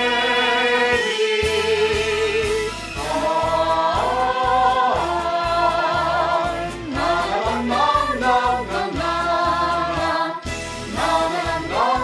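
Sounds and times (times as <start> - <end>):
choir of young voices singing: 0.0 - 12.0
instrumental accompaniment: 0.0 - 12.0.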